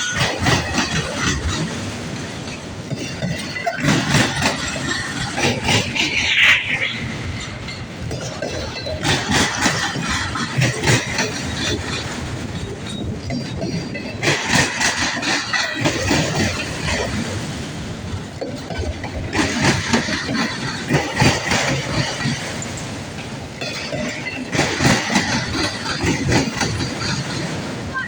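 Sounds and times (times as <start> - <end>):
train wheels clattering on rails: 0.0 - 28.0.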